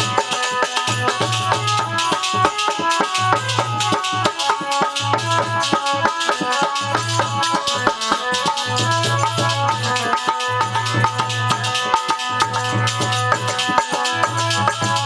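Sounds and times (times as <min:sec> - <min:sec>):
fast instrumental melody: 0:00.0 - 0:15.0
rattling hand percussion: 0:00.0 - 0:15.0.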